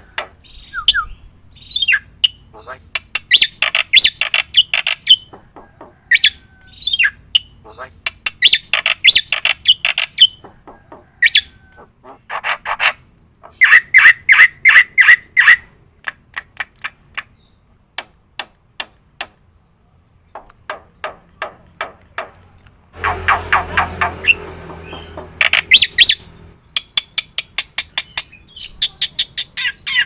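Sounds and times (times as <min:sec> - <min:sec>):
loud repeated bird notes: 0:00.0 - 0:15.7, 0:20.3 - 0:30.0
bird squawking and chattering: 0:00.0 - 0:17.5, 0:20.4 - 0:30.0.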